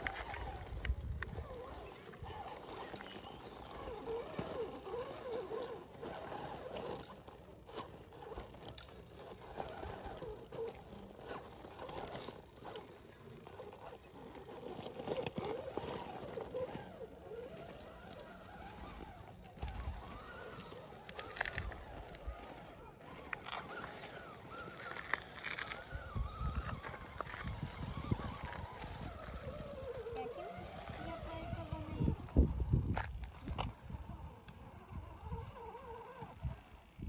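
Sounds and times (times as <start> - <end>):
stones crunching under tyres: 0.0 - 36.6
small electric motor whine: 0.0 - 37.0.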